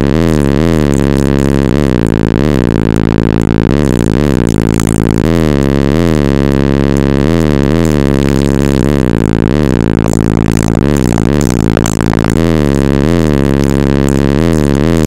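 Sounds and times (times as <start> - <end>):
loud deep bass from subwoofers: 0.0 - 15.0.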